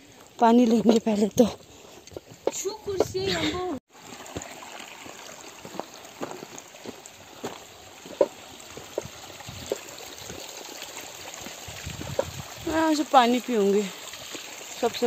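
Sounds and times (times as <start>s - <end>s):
stream trickling over rocks: 0.0s - 15.0s.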